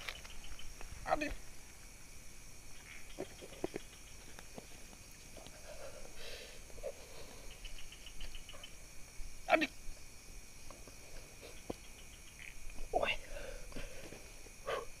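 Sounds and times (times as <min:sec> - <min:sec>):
night insects droning: 0:00.0 - 0:15.0
short insect chirps: 0:00.0 - 0:15.0.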